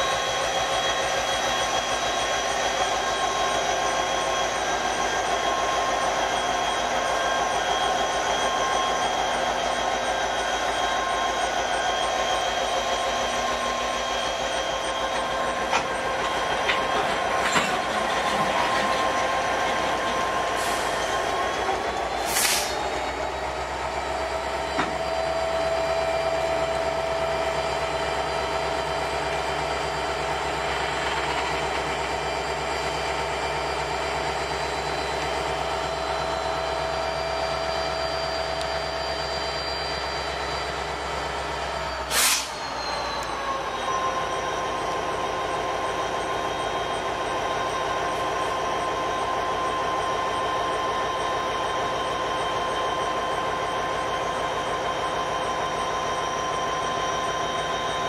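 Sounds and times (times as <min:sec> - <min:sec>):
freight train rolling past: 0:00.0 - 0:58.0
wheel squeal: 0:00.0 - 0:58.0.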